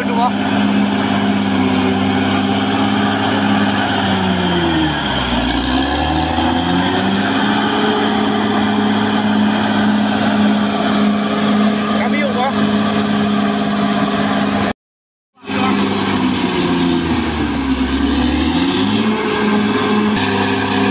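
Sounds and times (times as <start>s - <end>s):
bulldozer diesel engine: 0.0s - 14.7s, 15.4s - 20.9s.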